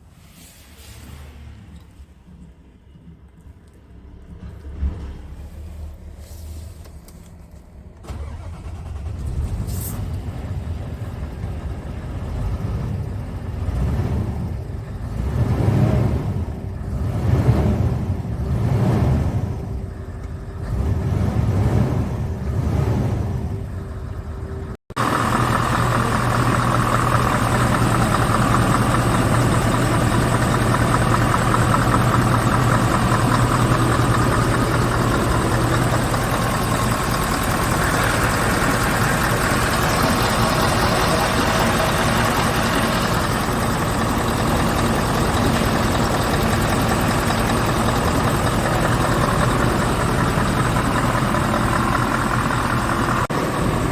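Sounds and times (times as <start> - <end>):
truck engine idling: 1.0 - 53.9.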